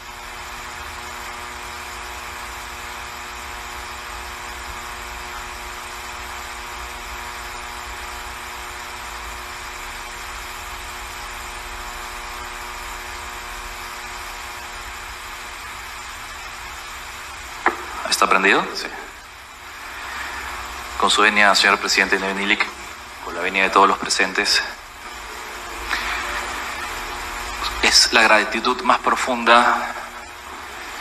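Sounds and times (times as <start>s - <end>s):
electrical buzz with hiss: 0.0s - 31.0s.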